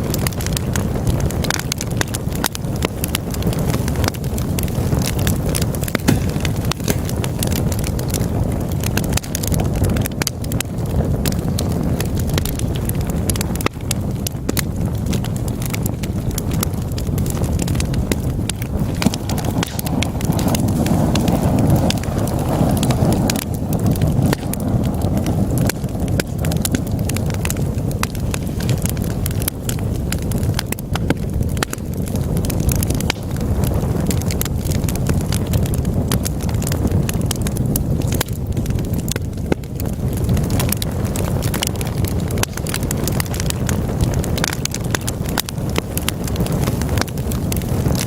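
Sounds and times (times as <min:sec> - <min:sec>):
burning logs crackling and popping: 0:00.0 - 0:48.0
low rumble of flames: 0:00.0 - 0:48.0.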